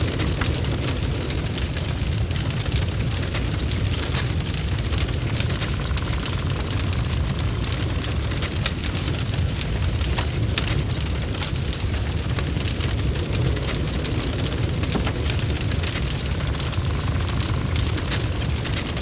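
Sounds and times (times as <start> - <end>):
burning wood crackling and popping: 0.0 - 19.0
low rumble of flame: 0.0 - 19.0.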